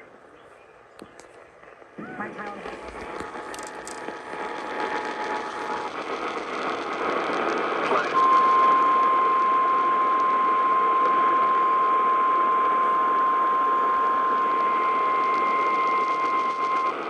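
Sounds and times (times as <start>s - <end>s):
radio hiss: 0.0s - 17.0s.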